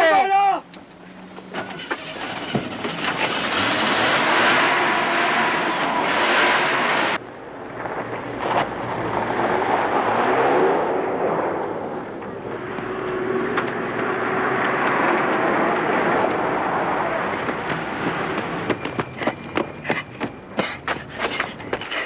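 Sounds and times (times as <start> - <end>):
road noise: 0.9 - 22.0
car engine: 1.8 - 21.8.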